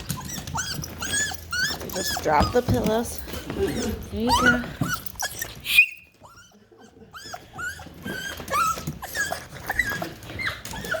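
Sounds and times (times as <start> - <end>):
dog whining: 0.0 - 11.0.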